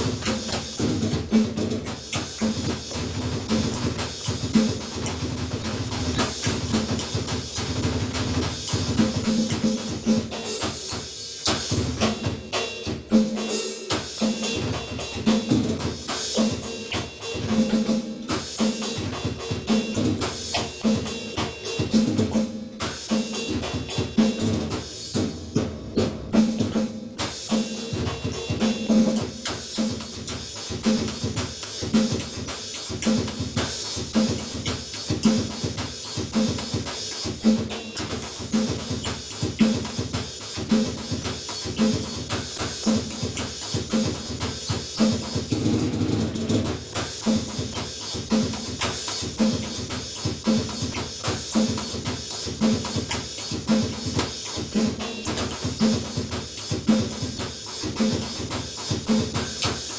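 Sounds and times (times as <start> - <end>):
kick drum and snare thumps: 0.0 - 59.9.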